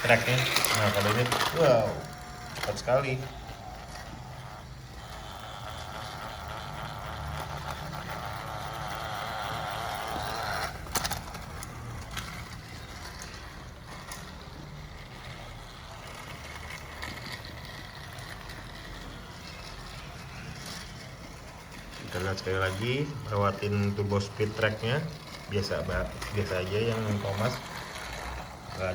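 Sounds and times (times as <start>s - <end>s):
toy train motor whirring: 0.0s - 28.9s.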